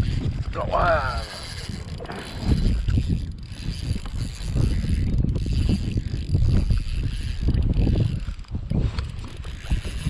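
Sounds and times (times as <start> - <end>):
pedal drive churning and creaking: 0.0 - 10.0.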